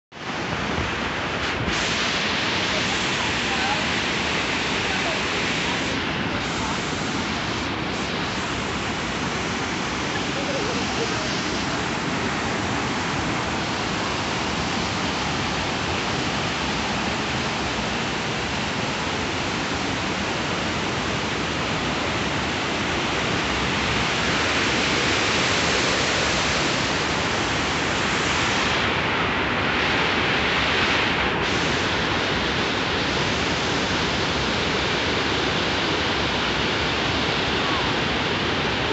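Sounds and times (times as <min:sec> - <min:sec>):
water rushing over rocks: 0:00.1 - 0:38.9.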